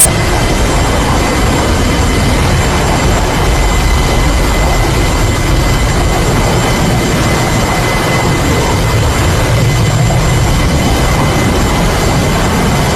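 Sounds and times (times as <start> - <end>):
aircraft engines roaring: 0.0 - 12.9.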